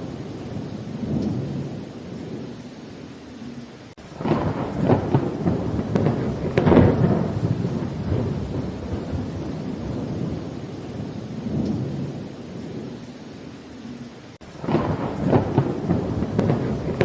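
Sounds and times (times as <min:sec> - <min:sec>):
crackling thunderclap: 0:00.0 - 0:02.6, 0:04.0 - 0:13.1, 0:13.8 - 0:17.0
rolling thunder: 0:00.0 - 0:02.6, 0:04.0 - 0:13.0, 0:14.4 - 0:17.0
rain: 0:00.0 - 0:17.0.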